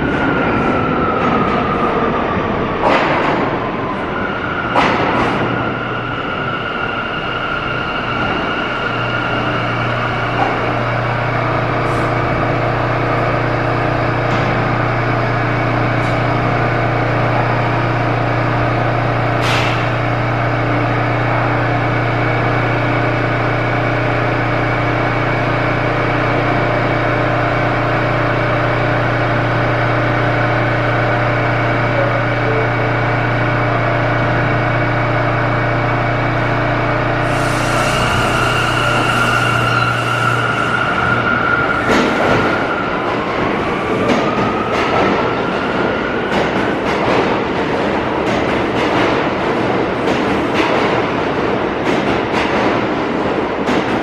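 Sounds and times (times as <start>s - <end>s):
subway train humming: 0.0s - 54.0s.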